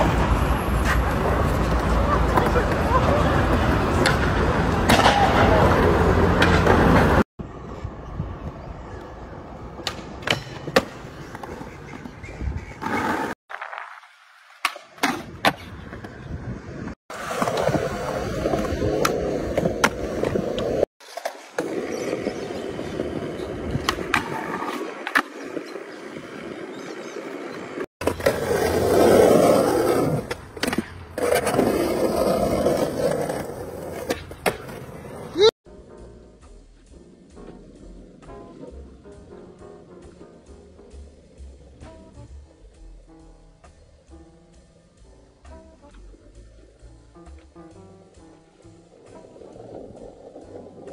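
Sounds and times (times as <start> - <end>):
skateboard wheels rolling on concrete: 0.0 - 50.9.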